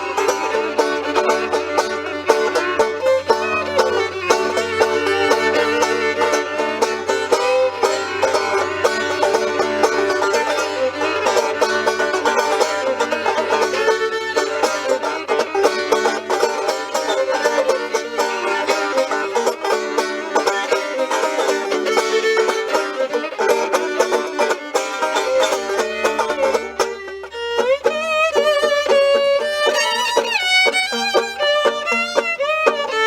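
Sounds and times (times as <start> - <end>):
banjo picking: 0.0 - 33.0
fiddle with sliding notes: 0.0 - 33.0.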